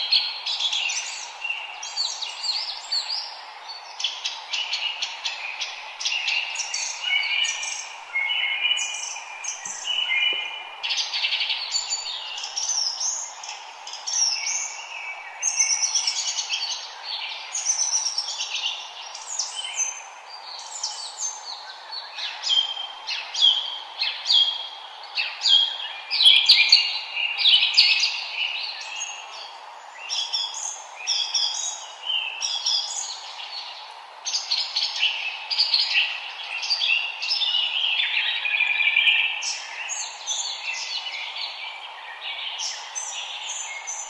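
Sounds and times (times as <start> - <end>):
faint steady hiss: 0.0 - 44.0
songbirds chirping: 0.0 - 44.0.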